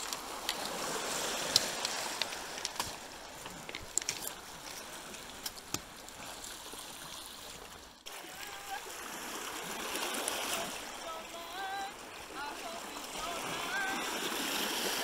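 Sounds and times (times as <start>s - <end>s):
water washing on pebbles: 0.0s - 15.0s.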